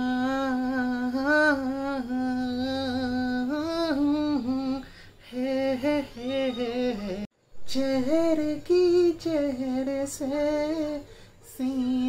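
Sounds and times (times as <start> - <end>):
person humming a melody: 0.0 - 11.0, 11.6 - 12.0.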